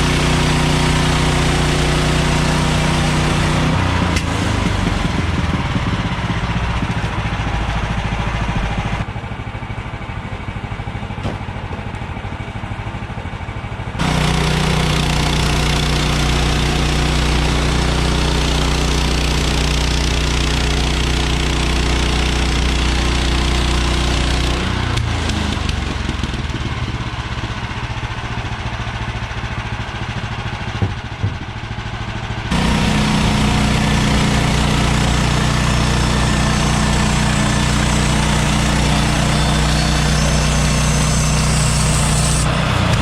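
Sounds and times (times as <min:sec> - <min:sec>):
gasoline engine running: 0:00.0 - 0:43.0.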